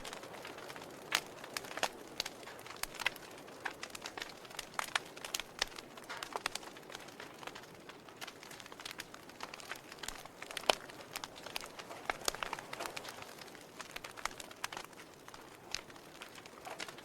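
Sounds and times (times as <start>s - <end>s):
soft hiss of flames: 0.0s - 17.0s
wood fire pops and snaps: 0.0s - 17.0s.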